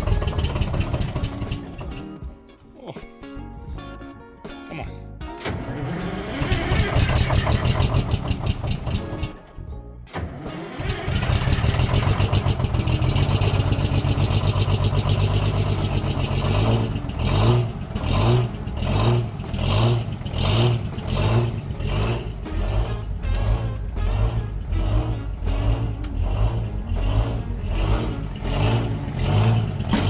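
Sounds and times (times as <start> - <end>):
diesel truck engine running: 0.0 - 2.1, 5.4 - 9.5, 10.1 - 30.0.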